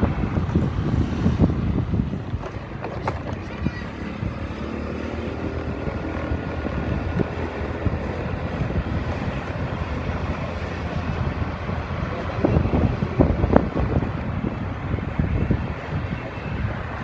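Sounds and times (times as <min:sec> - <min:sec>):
low vehicle hum: 0:00.0 - 0:17.0
wind rumbling on microphone: 0:00.0 - 0:17.0.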